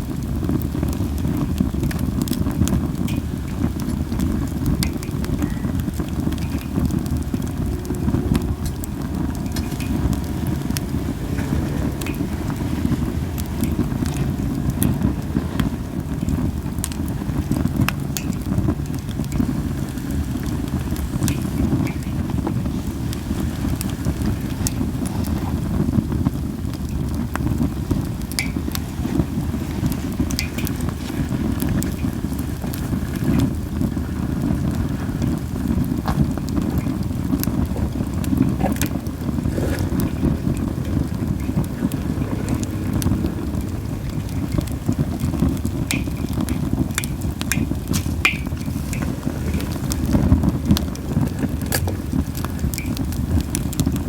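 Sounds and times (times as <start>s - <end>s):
campfire crackles and pops: 0.0s - 54.0s
fire low rumble: 0.0s - 54.0s.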